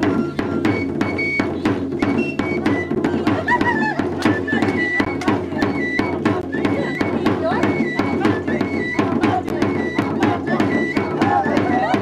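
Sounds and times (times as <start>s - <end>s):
high flute piping: 0.0s - 12.0s
steady drum beat: 0.0s - 12.0s.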